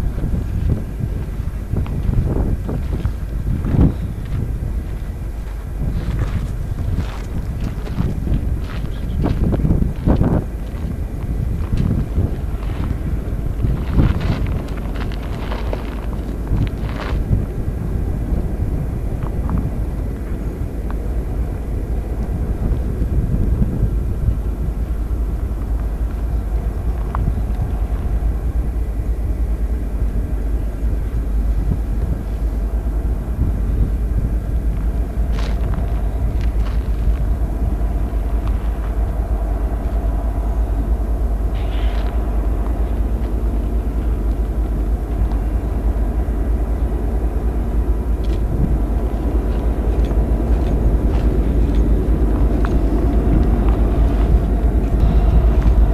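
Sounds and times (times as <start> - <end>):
diesel locomotives rumbling: 0.0 - 55.9.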